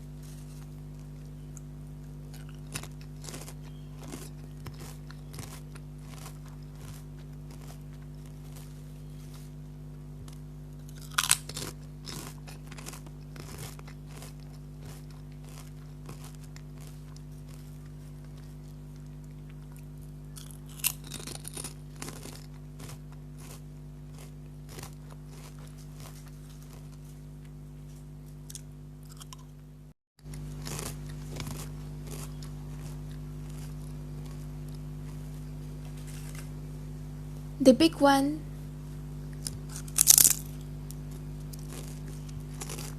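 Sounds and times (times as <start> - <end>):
chewing chips: 0.1 - 9.6, 10.2 - 29.5, 30.2 - 36.6, 39.3 - 42.9
potato chips crunching: 0.1 - 9.6, 10.2 - 29.5, 30.2 - 36.5, 39.3 - 42.9.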